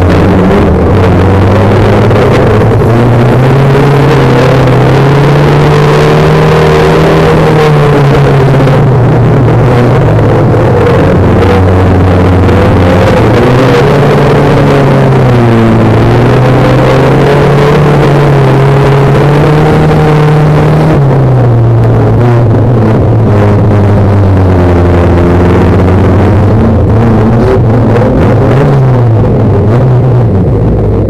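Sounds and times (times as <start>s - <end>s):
racing car engine running hard: 0.0s - 31.0s
rough noisy rumble: 0.0s - 31.0s.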